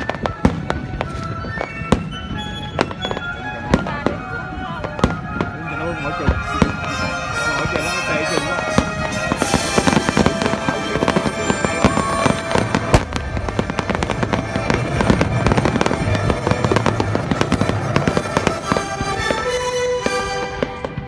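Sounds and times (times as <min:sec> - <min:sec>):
fireworks crackling and popping: 0:00.0 - 0:21.0
music: 0:00.0 - 0:21.0.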